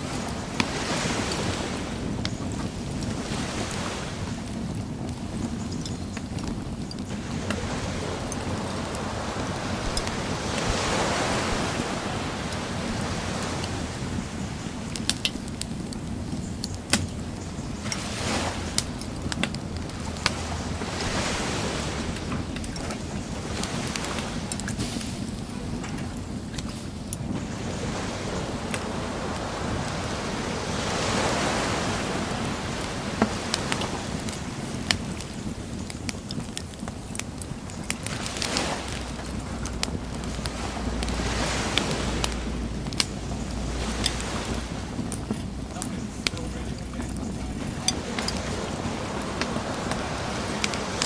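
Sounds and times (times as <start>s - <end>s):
fire popping: 0.0s - 51.0s
sea waves washing on beach: 0.0s - 51.0s
wood bonfire crackling: 0.0s - 51.0s.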